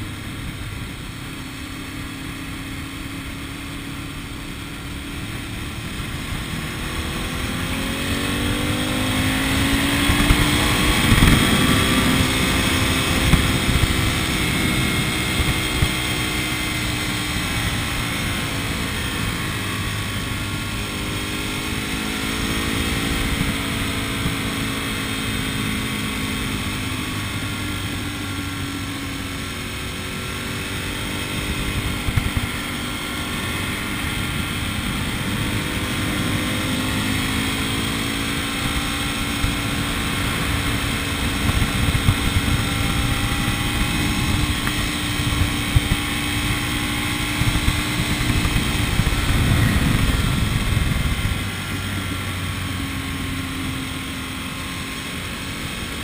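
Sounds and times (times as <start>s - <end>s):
road noise: 0.0s - 56.0s
vehicle engine: 0.0s - 56.0s.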